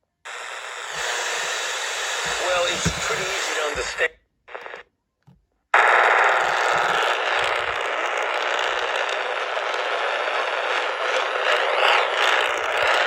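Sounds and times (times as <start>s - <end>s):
radio static crackling hiss: 0.3s - 4.8s, 5.8s - 13.0s.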